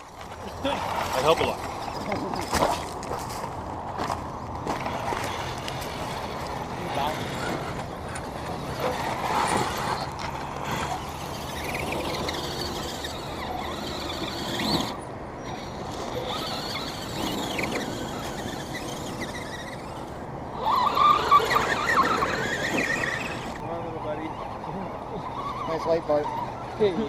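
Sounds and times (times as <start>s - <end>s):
rc truck motors whining: 4.6s - 27.0s.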